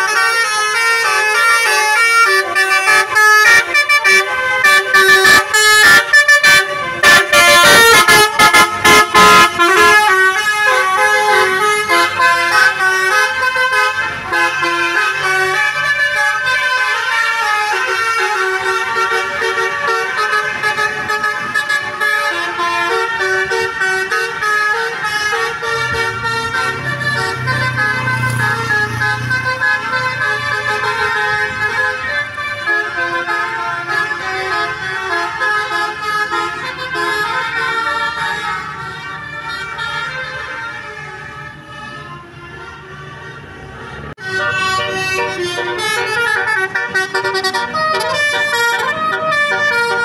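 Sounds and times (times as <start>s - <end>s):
musical air horn tune: 0.0s - 38.2s, 44.2s - 50.0s
bus engine: 0.0s - 50.0s.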